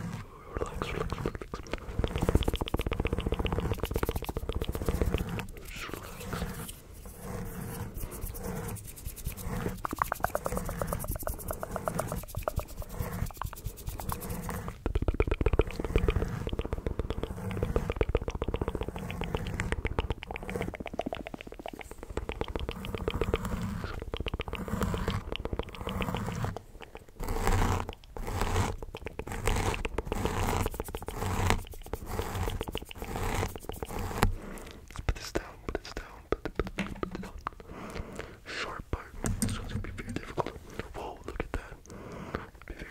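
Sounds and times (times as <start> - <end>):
wet mouth clicking and smacking: 0.6 - 6.6, 8.0 - 38.4, 39.3 - 42.9.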